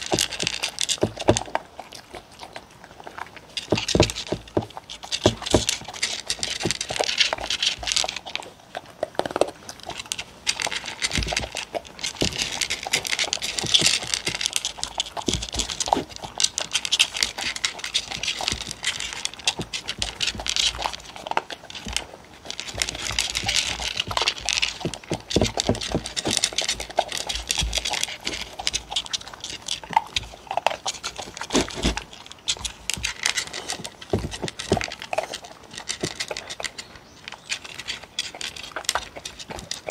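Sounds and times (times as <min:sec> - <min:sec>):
dull knocks against wooden bowls: 0:00.0 - 0:01.6, 0:03.6 - 0:08.2, 0:10.5 - 0:36.8
dogs crunching kibble: 0:00.0 - 0:39.9.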